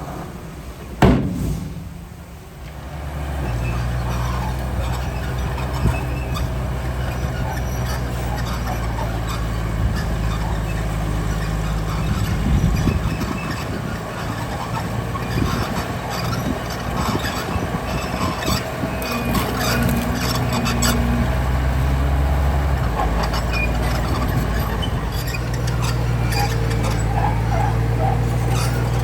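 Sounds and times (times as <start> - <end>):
engine knocks: 0.0 - 29.0
heavy diesel engine running: 0.0 - 29.0.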